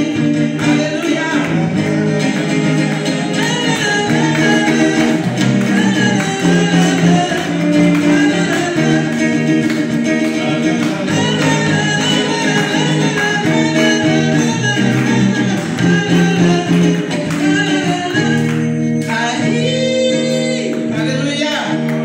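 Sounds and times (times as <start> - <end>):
woman singing gospel song: 0.0 - 21.6
electric guitar: 0.0 - 22.0.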